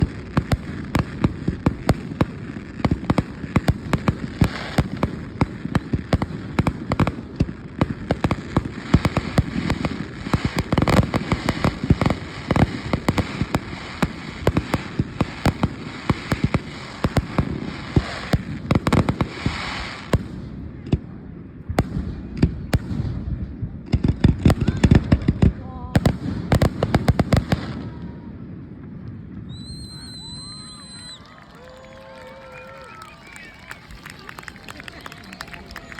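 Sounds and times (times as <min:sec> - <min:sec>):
fireworks booms and cracks: 0:00.0 - 0:31.8.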